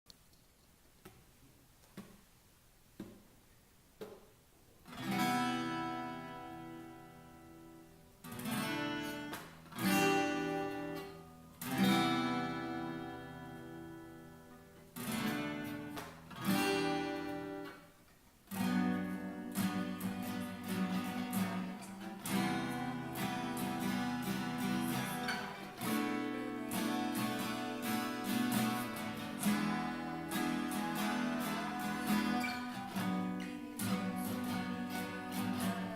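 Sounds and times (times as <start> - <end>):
acoustic guitar strumming: 4.9 - 35.9.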